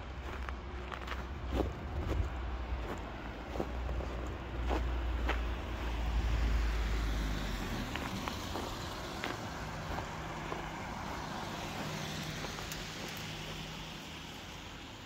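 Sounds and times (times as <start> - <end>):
low engine hum: 0.0 - 15.0
cars passing on wet road: 0.1 - 15.0.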